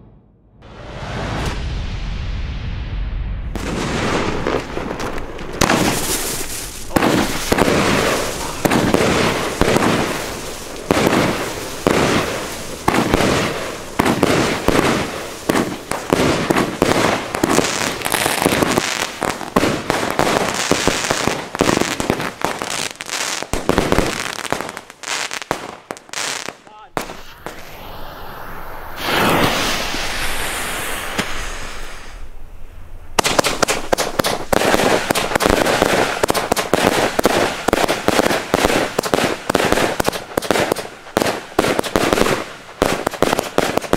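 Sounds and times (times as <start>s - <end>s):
fireworks bangs and crackle: 0.0s - 43.9s.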